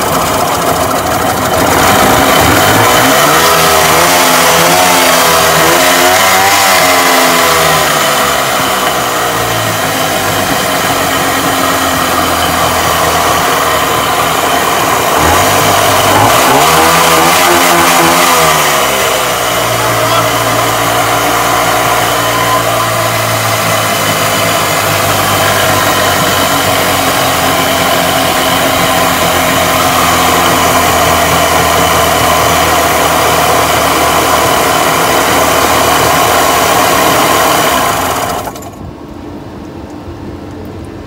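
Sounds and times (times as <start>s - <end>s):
outboard engine running: 0.0s - 38.9s.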